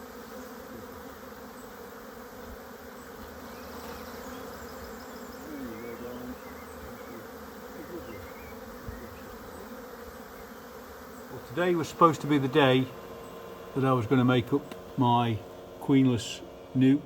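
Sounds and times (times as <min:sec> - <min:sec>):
honeybees buzzing: 0:00.0 - 0:17.0
single bee passing close: 0:00.0 - 0:17.0.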